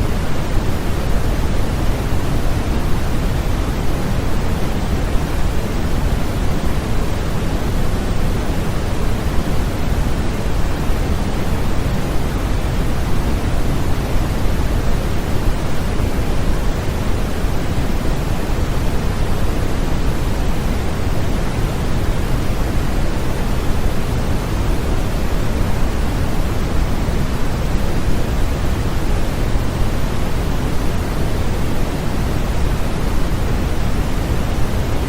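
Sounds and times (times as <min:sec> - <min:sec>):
steady white noise: 0:00.0 - 0:35.0.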